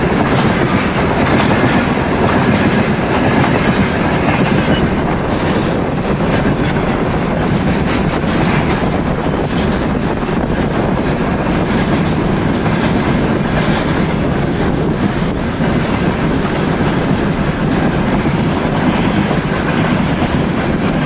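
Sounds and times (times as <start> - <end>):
high wheel squeal: 0.0 - 7.2, 8.4 - 21.0
steel wheels running over rails: 0.0 - 21.0.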